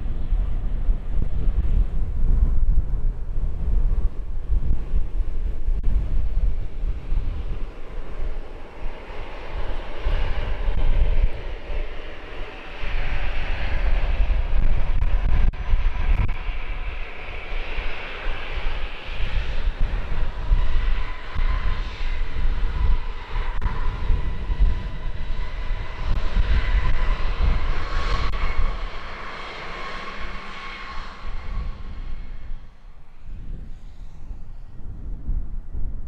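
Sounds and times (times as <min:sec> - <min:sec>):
airliner engines whining: 0:00.0 - 0:36.0
wind noise on microphone: 0:00.0 - 0:36.0.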